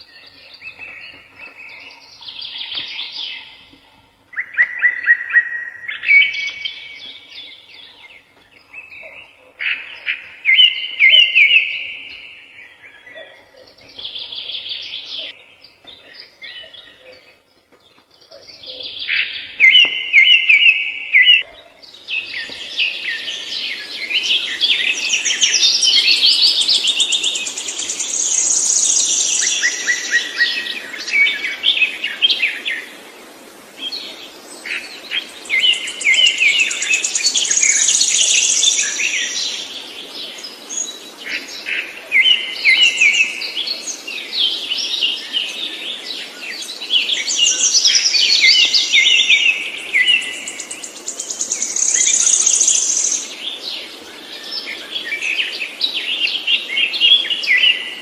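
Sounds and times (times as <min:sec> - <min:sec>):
songbird singing trills: 0:00.0 - 0:32.9, 0:33.9 - 0:58.0.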